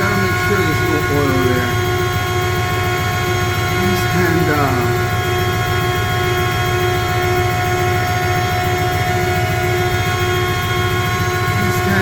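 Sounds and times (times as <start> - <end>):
chiller machinery drone: 0.0 - 12.0.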